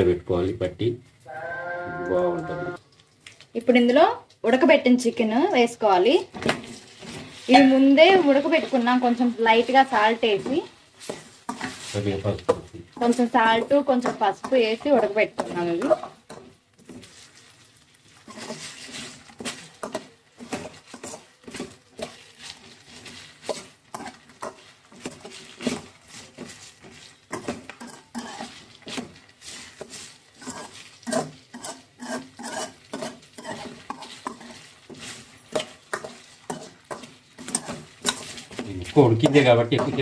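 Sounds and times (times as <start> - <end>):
metal spatula scraping a metal pan: 6.4 - 12.2, 12.9 - 40.0.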